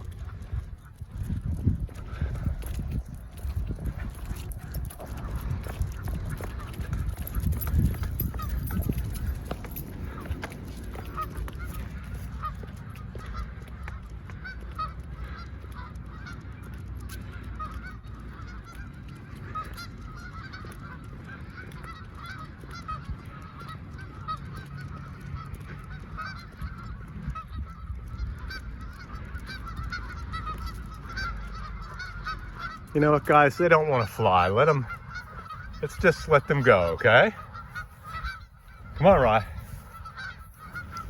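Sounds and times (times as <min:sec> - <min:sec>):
geese honking: 0:02.0 - 0:41.0.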